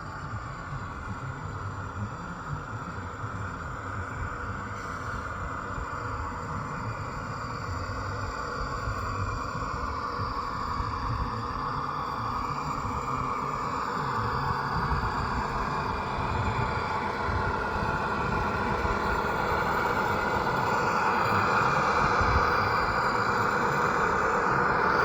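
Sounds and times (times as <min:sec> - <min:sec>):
model train running on track: 0:00.0 - 0:25.0.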